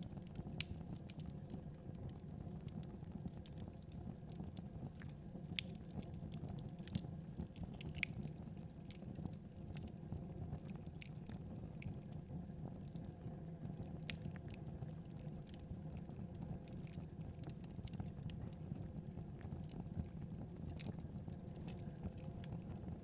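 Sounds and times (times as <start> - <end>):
rumble of fire flames: 0.0 - 23.0
logs crackling and popping: 0.2 - 1.3, 2.7 - 13.2, 13.8 - 18.5, 19.5 - 23.0.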